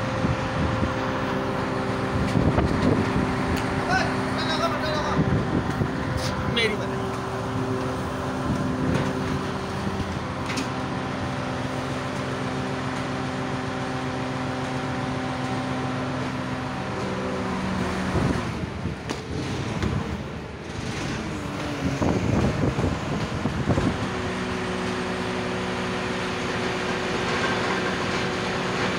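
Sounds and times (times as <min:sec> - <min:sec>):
heavy vehicle engine idling: 0:00.0 - 0:28.9.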